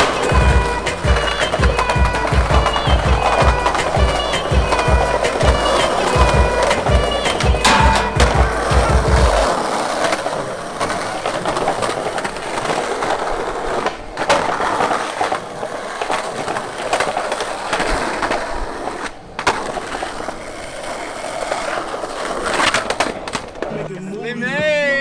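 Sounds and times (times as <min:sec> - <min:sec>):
skateboard clacks: 0:00.0 - 0:24.7
skateboard wheels rolling on concrete: 0:00.0 - 0:25.0.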